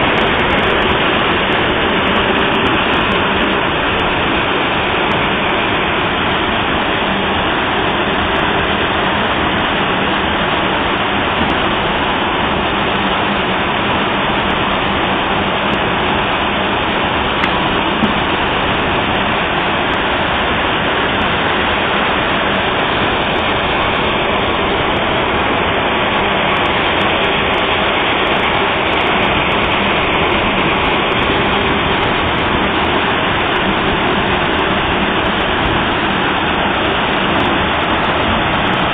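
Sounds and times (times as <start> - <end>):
dryer fans rushing: 0.0 - 38.9.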